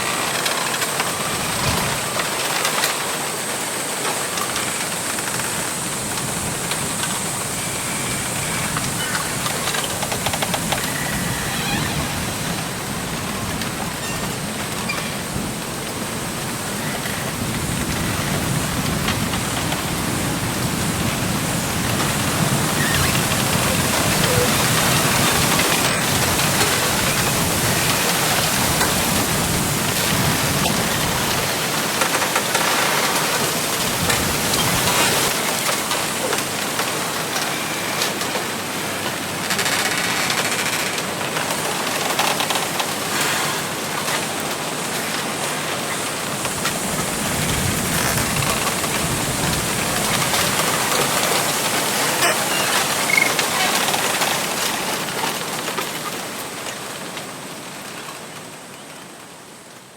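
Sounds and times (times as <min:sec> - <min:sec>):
wind rustling bamboo leaves: 0:00.0 - 0:59.9.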